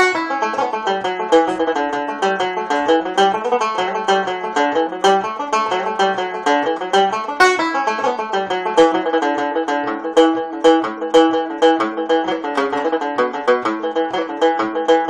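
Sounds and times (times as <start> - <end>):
banjo picked notes: 0.0 - 15.0.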